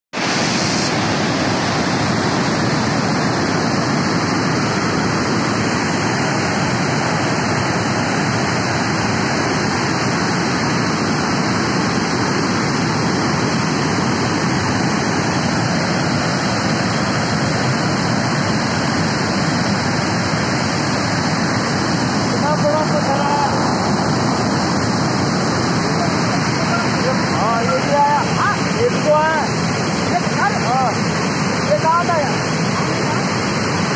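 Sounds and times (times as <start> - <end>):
flooded river rushing: 0.2 - 33.9.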